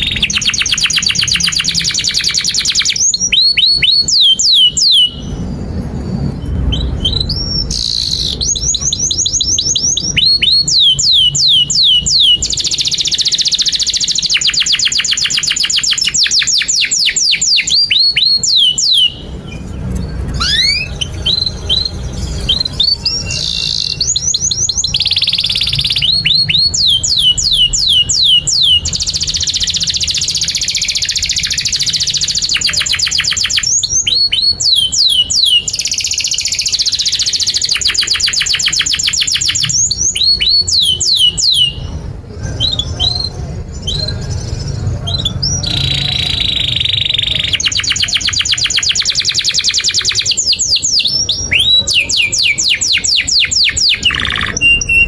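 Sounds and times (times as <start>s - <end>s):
canary singing trills and whistles: 0.0s - 55.0s.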